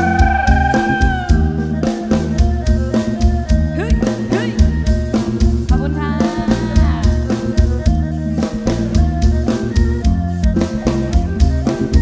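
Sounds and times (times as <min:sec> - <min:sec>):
deep bass notes: 0:00.0 - 0:12.0
drum kit beat: 0:00.0 - 0:12.0
sliding lead melody: 0:00.0 - 0:12.0.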